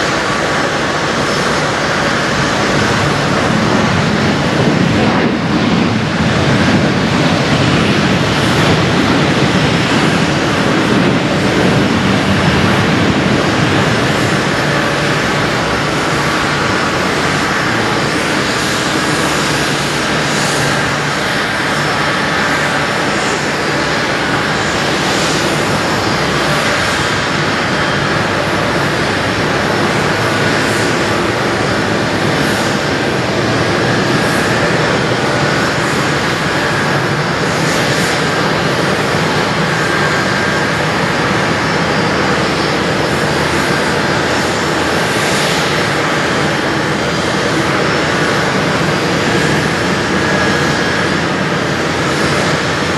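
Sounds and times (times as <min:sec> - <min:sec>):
jet engines running: 0:00.0 - 0:52.9.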